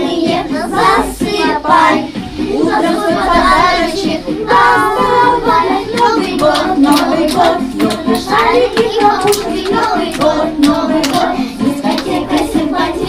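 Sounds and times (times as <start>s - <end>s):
backing music: 0.0s - 13.0s
children singing: 0.0s - 13.0s
rhythmic hand claps: 0.0s - 13.0s.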